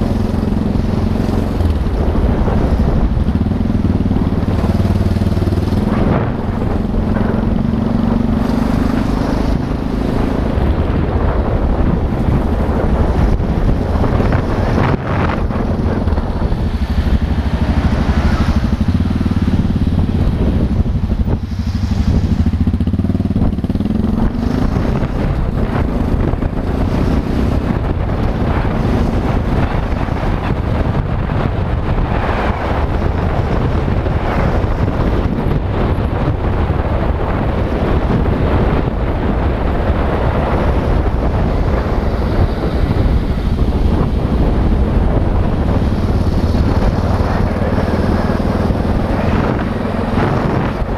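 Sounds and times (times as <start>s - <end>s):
motorcycle engine running: 0.0s - 50.9s
wind and road rush: 0.0s - 50.9s.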